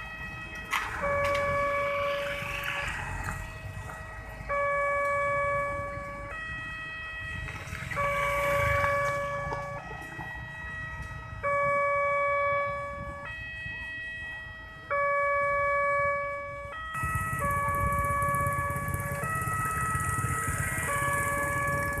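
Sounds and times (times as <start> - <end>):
level crossing warning siren: 0.0 - 22.0
traffic rumble: 0.0 - 22.0.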